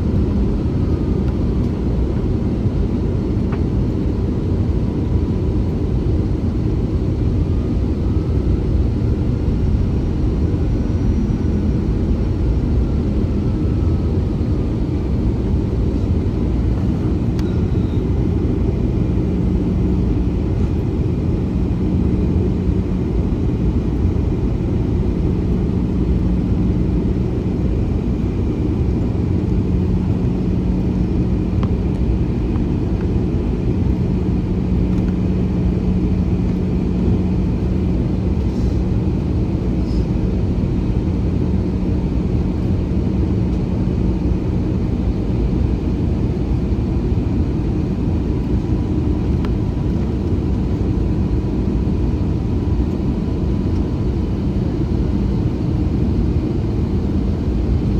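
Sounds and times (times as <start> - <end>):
aircraft cabin engine rumble: 0.0 - 57.9
steady low hum: 0.0 - 57.9.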